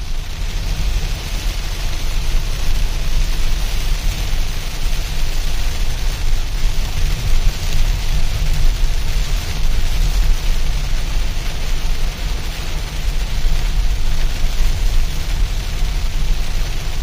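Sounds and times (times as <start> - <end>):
car rumbling on road: 0.0 - 17.0
heavy rain on a car: 0.0 - 17.0.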